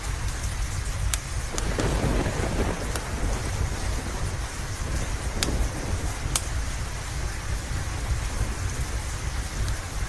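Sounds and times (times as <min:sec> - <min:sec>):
crackling log fire: 0:00.0 - 0:10.0
fire popping: 0:00.0 - 0:10.0
steady rain: 0:00.0 - 0:10.0
thunder rumble: 0:00.1 - 0:10.0.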